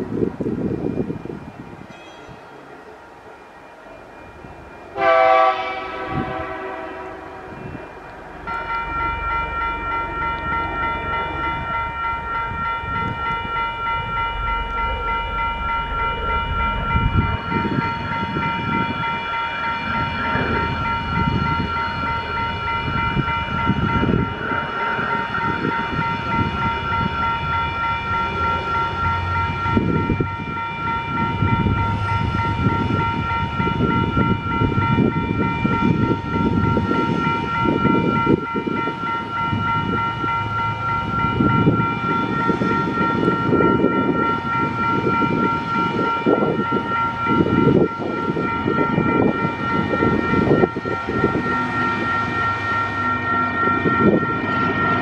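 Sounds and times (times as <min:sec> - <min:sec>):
diesel locomotive engine rumble: 0:00.0 - 0:55.0
level crossing bells ringing: 0:07.5 - 0:55.0.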